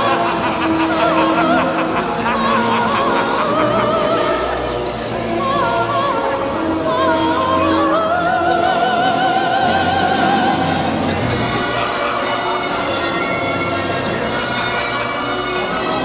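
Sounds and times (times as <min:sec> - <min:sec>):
operatic singing: 0:00.0 - 0:16.0
sustained accompanying notes: 0:00.0 - 0:16.0.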